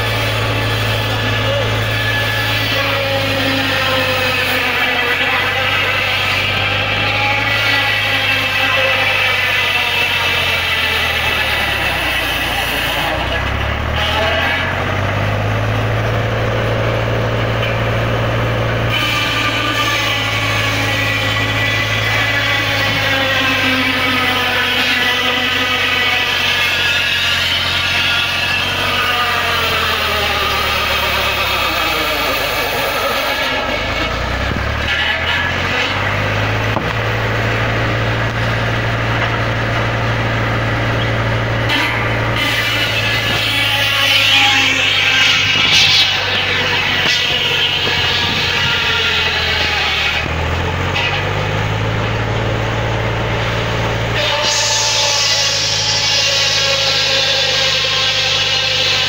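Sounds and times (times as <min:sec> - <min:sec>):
saw blade whining cutting log: 0:00.0 - 0:59.0
tractor engine humming: 0:00.0 - 0:59.0.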